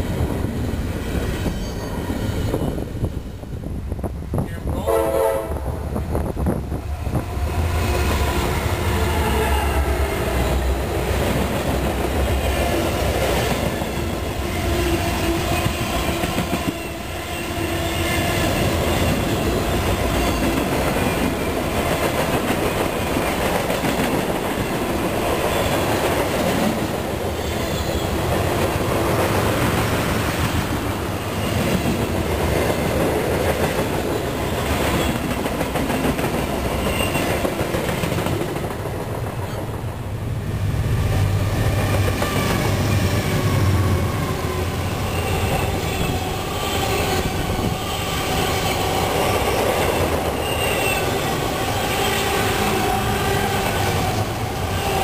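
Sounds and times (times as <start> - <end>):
diesel locomotive engines rumbling: 0.0 - 55.0
freight cars wheel-on-rail noise: 0.0 - 55.0.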